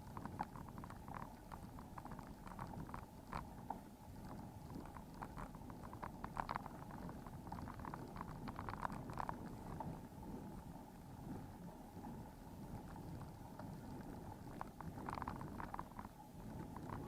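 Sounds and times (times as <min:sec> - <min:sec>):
wind and road noise rumble: 0:00.0 - 0:17.0.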